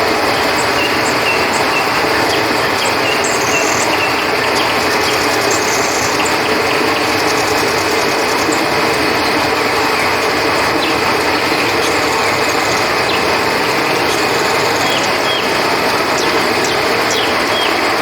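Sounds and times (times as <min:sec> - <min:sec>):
crickets chirping: 0:00.0 - 0:18.0
river water flowing: 0:00.0 - 0:18.0.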